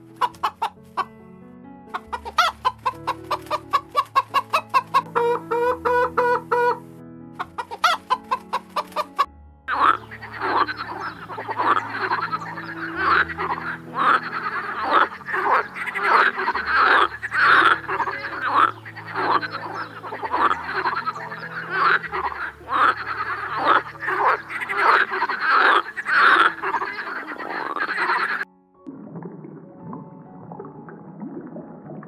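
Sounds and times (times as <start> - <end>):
frog croaking: 2.0 - 6.8, 7.4 - 28.5.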